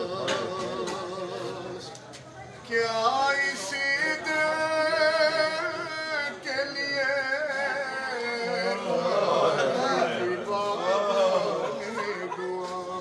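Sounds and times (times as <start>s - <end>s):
man singing a lament chant: 0.0s - 1.9s, 2.7s - 13.0s.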